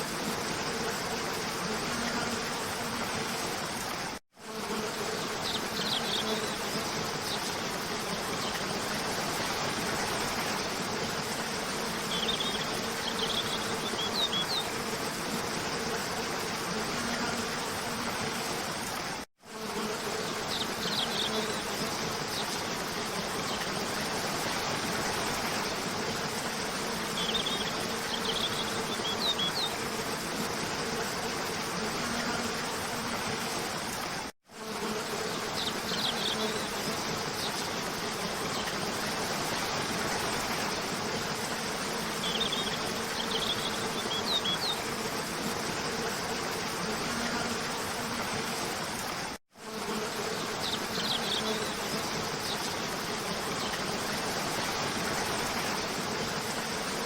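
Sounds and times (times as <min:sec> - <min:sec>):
insect buzz: 0:00.0 - 0:57.0.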